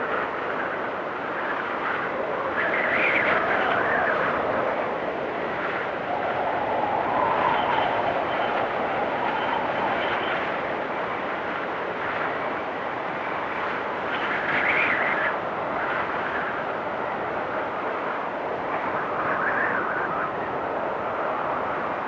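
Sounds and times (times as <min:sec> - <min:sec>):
wind blowing through trees: 0:00.0 - 0:22.0.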